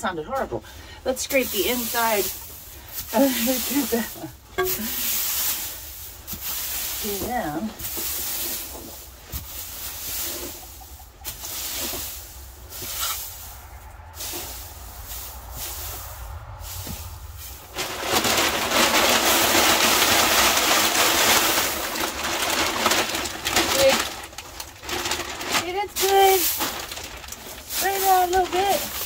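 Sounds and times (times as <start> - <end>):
scraping out a container: 0.4 - 29.0.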